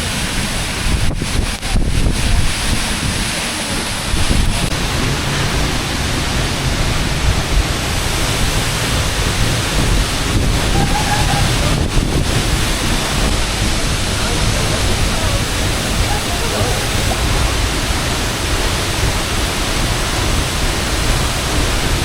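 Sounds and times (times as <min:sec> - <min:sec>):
loud low rushing noise: 0:00.0 - 0:22.0
wind buffeting microphone: 0:00.0 - 0:22.0.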